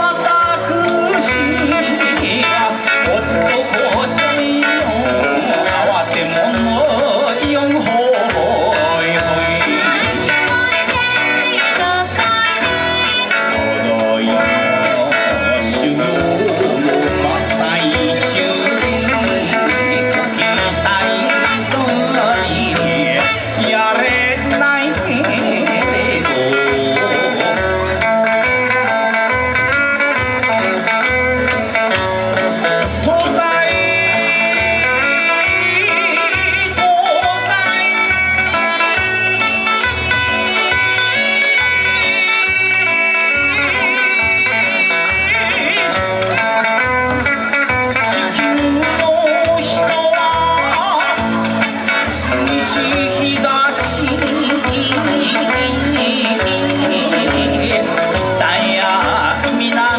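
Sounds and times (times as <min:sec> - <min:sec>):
bon-dance music played live: 0:00.0 - 0:59.9
electric guitar: 0:00.0 - 0:59.9.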